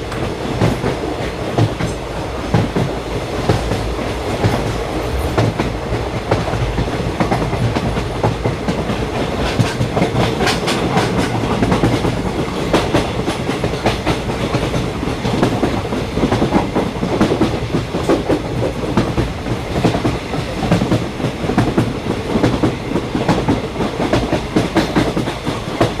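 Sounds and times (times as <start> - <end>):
rumble of rail noise: 0.0 - 26.0
train wheels clattering: 0.1 - 26.0.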